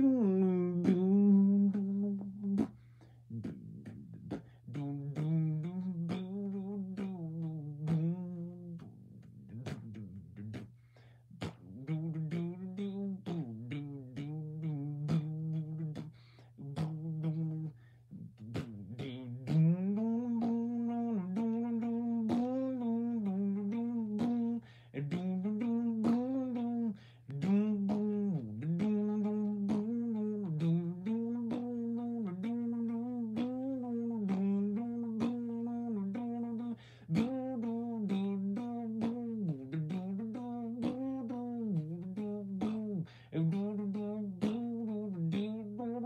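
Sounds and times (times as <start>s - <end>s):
person humming: 0.0s - 46.0s.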